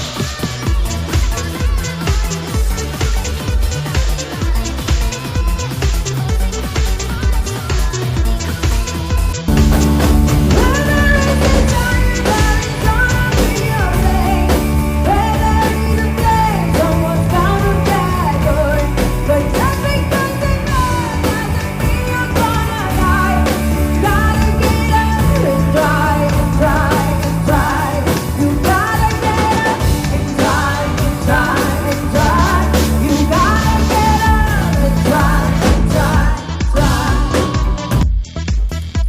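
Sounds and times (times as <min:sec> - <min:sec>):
rock-pop song with singing: 0:00.0 - 0:38.1.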